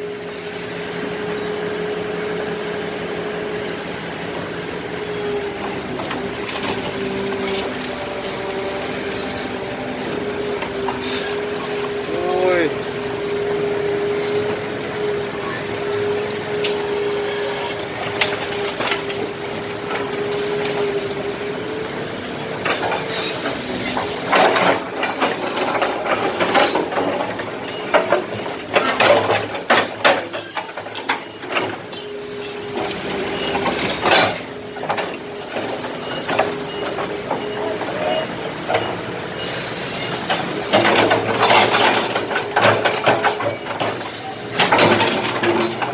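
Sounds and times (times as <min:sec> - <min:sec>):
excavator machine hum: 0:00.0 - 0:45.9.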